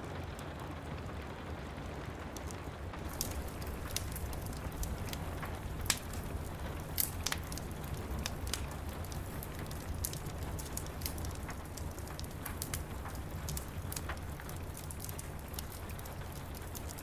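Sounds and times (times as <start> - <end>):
rain hiss and rumble: 0.0 - 17.0
wood fire crackling and popping: 0.0 - 17.0.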